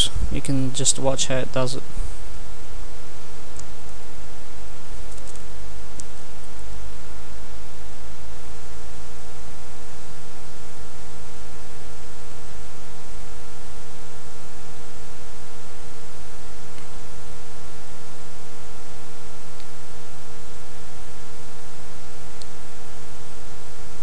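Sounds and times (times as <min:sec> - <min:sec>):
electrical hum with tones: 0:00.0 - 0:24.0.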